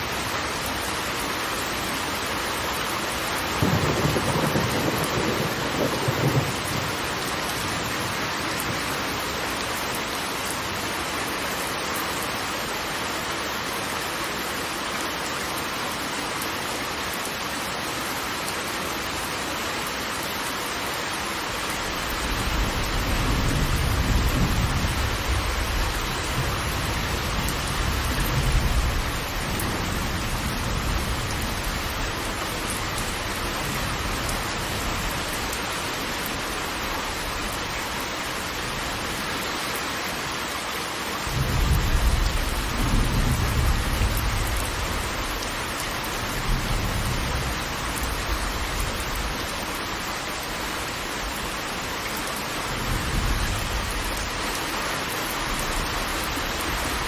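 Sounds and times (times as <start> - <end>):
falling water rushing: 0.0 - 57.0.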